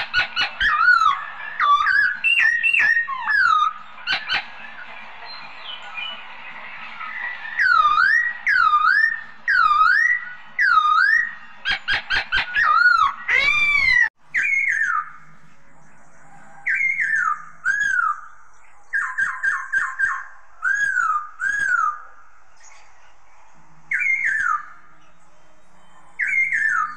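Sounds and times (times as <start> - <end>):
songbird whistling: 0.0 - 4.5, 7.0 - 15.3, 16.0 - 22.8, 23.9 - 25.2, 25.8 - 26.9.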